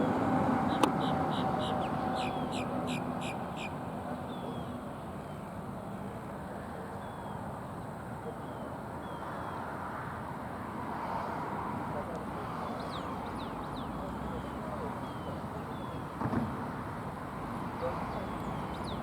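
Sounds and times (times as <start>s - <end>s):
low outdoor background rush: 0.0s - 19.0s.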